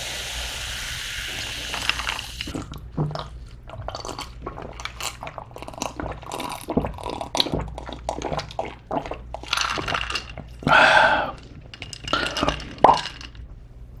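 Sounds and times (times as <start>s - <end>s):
person gulping water: 1.7s - 13.3s.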